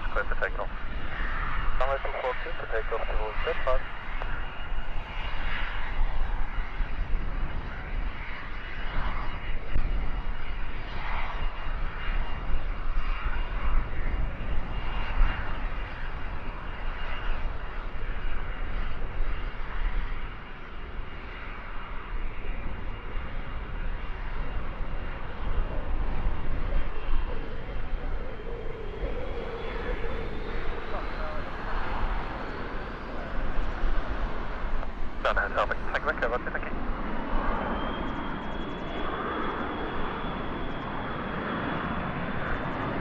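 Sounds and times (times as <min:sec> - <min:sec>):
jet engines roaring with whine: 0:00.0 - 0:43.0
wind buffeting microphone: 0:00.0 - 0:43.0.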